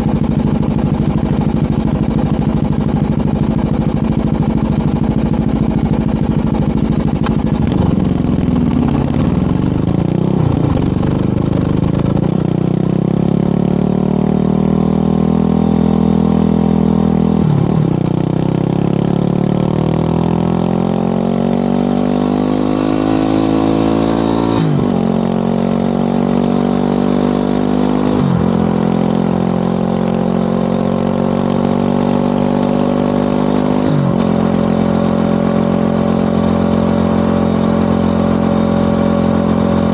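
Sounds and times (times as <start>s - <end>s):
motorcycle accelerating through gears: 0.0s - 39.9s.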